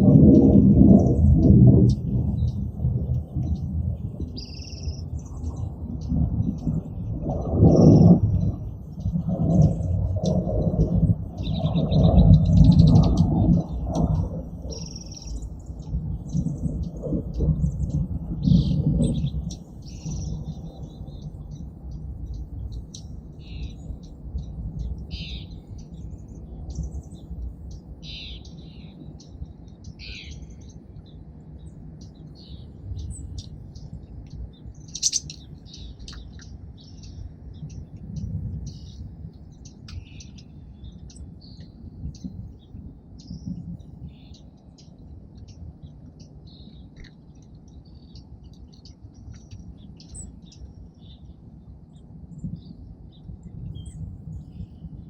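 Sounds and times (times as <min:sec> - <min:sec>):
low background rumble: 0:00.0 - 0:55.0
songbirds chirping: 0:00.0 - 0:55.0.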